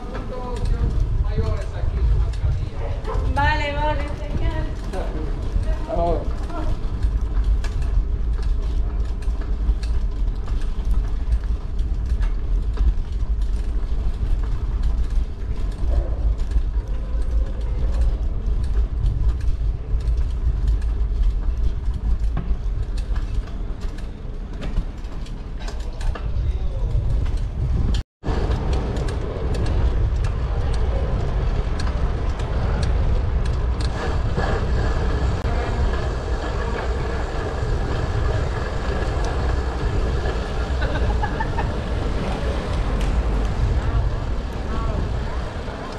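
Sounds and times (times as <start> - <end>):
bicycle rattling and clicking: 0.0 - 45.9
street noise: 0.0 - 45.9
wind rumbling on microphone: 0.0 - 45.9.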